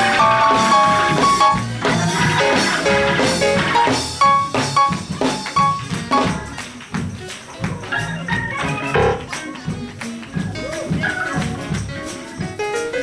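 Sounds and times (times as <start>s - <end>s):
drum kit beat: 0.0s - 13.0s
instrumental band music: 0.0s - 13.0s.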